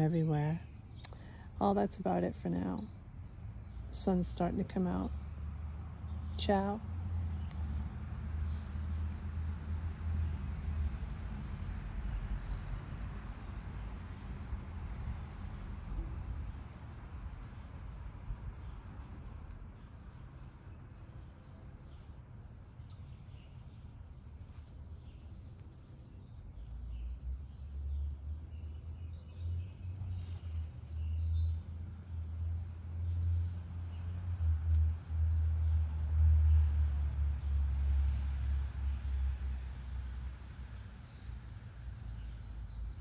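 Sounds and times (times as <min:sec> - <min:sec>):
songbirds chirping and singing: 0:00.0 - 0:07.6, 0:16.1 - 0:43.0.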